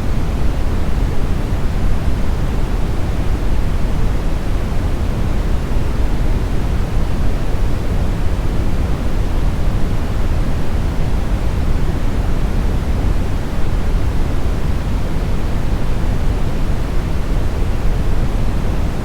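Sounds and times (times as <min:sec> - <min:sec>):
brown noise rumble: 0:00.0 - 0:19.0.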